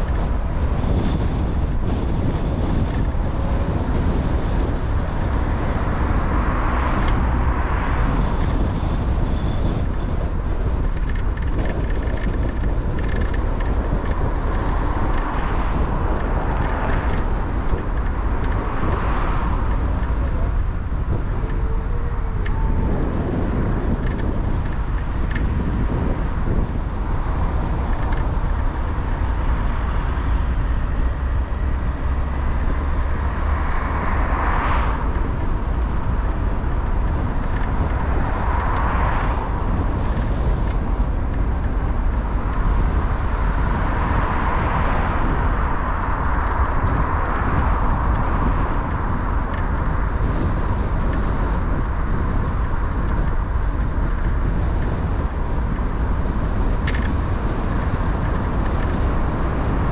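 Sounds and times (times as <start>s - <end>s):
car road and engine noise: 0.0s - 59.9s
passing traffic: 0.0s - 59.9s.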